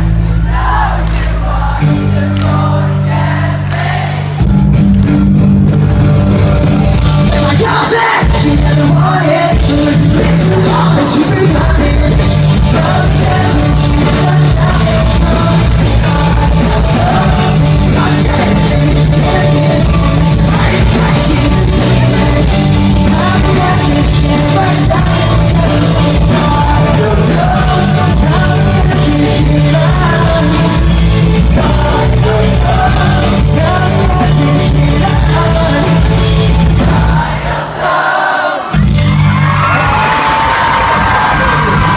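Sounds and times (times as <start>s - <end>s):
person singing lead vocal: 0.0s - 4.5s, 6.8s - 38.8s
bass guitar: 0.0s - 37.4s, 38.7s - 41.9s
electric guitars: 0.0s - 37.4s
drums: 0.0s - 41.9s.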